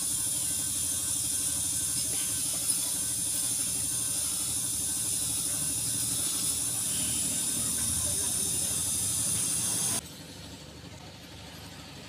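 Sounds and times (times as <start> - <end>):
bench grinder grinding rubber: 0.0 - 10.0.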